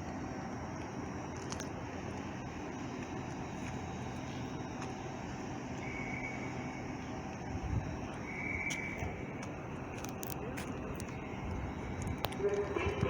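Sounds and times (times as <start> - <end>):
station background noise: 0.0 - 13.0
train rumble: 0.0 - 13.0.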